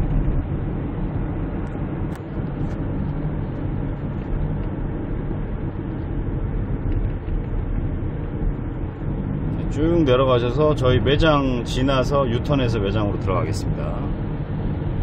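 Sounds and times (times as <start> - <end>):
engine and road noise in car: 0.0 - 15.0.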